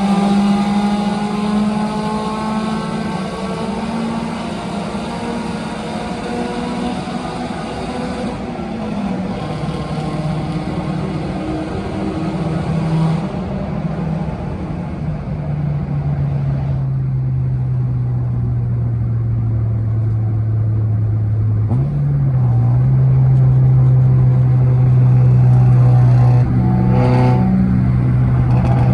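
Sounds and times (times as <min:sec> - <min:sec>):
car engine running under load: 0:00.0 - 0:28.9.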